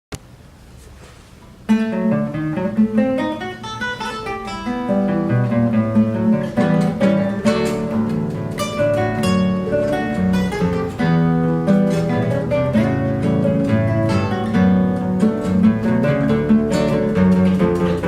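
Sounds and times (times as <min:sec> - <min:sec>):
acoustic guitars playing: 0:00.8 - 0:18.0.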